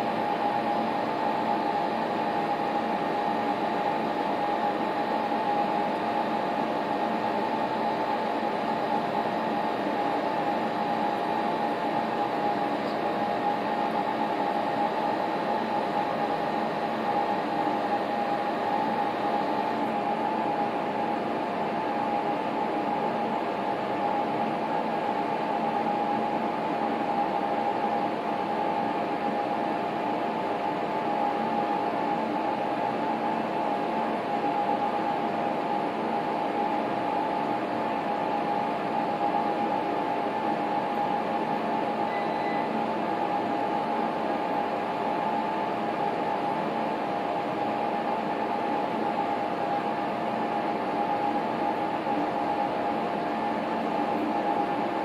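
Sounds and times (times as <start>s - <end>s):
high-pitched electrical hum: 0.0s - 55.0s.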